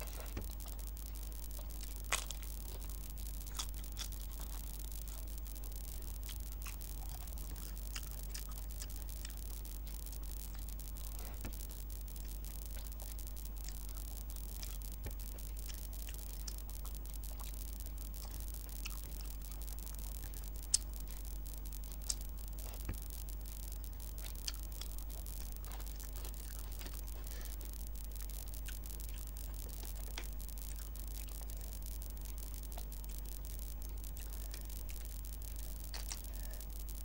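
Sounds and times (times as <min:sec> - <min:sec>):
chewing: 0:00.0 - 0:37.0
low hum and hiss: 0:00.0 - 0:37.0.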